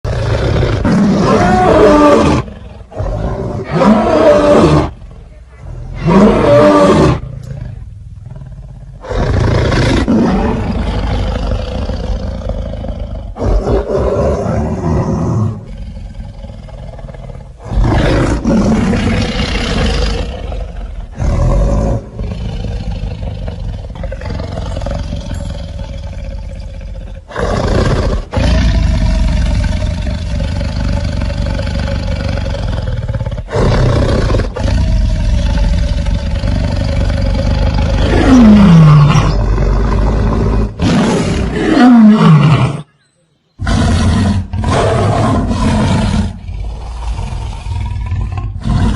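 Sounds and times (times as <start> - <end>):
lion roaring and growling: 0.1 - 42.9, 43.6 - 48.9.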